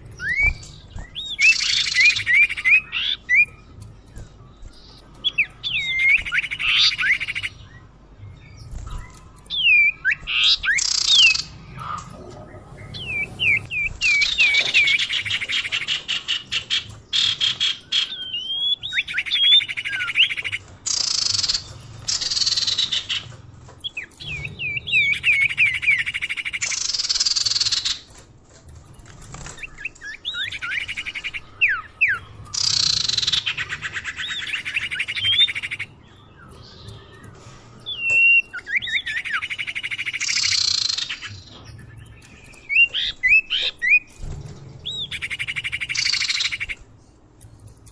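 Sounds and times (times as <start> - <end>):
harsh buzzy bird chatter: 0.0 - 47.9.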